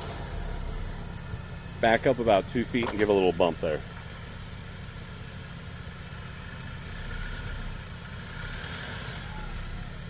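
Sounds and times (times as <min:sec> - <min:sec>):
vehicle engine running at low revs: 0:00.0 - 0:10.0.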